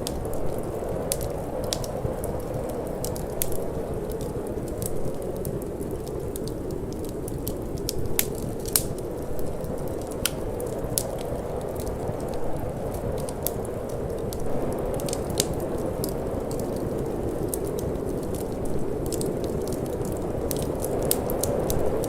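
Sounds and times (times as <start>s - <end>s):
low rushing of wind: 0.0s - 22.0s
wood fire crackling: 0.0s - 22.0s.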